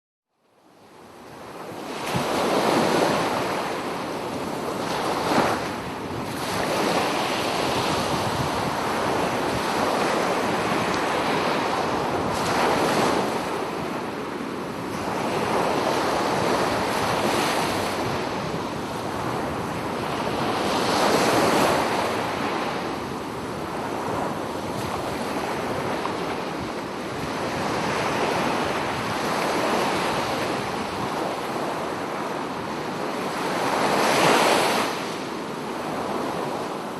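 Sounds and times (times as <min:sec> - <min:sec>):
ocean waves breaking on a beach: 0:00.5 - 0:36.9
wind across the microphone: 0:00.7 - 0:36.9.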